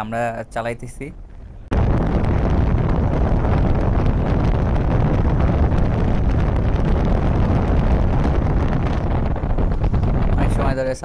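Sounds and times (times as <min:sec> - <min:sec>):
wind buffeting microphone: 0:00.8 - 0:11.0.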